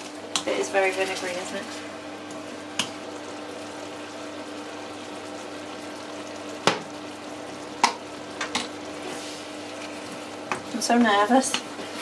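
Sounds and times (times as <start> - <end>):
food sizzling and bubbling in wok: 0.0 - 12.0.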